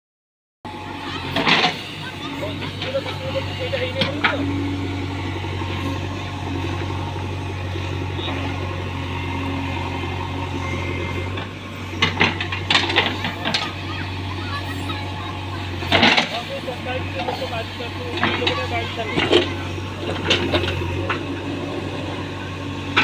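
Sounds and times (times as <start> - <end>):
diesel engine running: 0.7 - 23.0.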